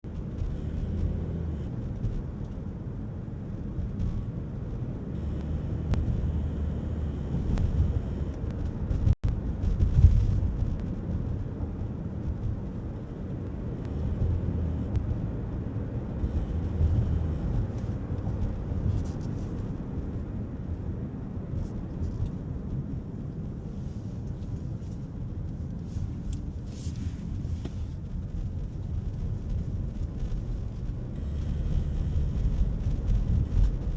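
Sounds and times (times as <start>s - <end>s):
car low uneven rumble: 0.0s - 33.9s.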